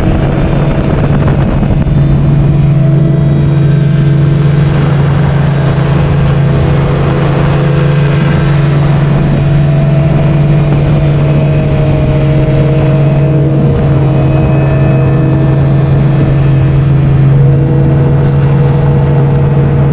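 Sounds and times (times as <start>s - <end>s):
engine droning: 0.0s - 19.9s.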